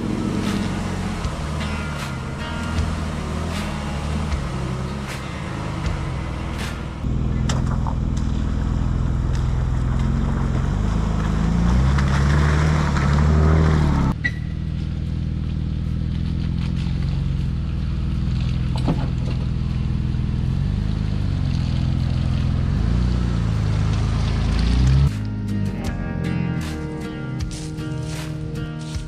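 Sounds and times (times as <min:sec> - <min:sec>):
car engine running off-road: 0:00.0 - 0:29.0.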